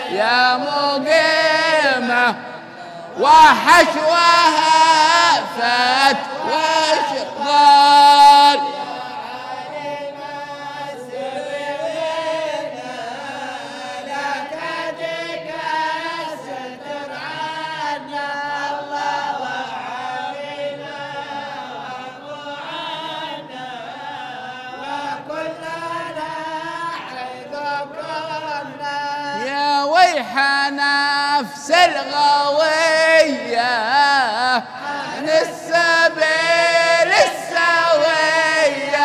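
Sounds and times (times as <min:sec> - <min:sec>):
men chanting together: 0:00.0 - 0:39.0.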